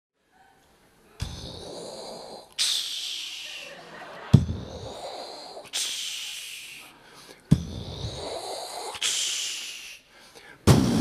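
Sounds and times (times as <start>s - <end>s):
respirator breathing hiss: 1.2s - 3.9s, 4.6s - 11.0s.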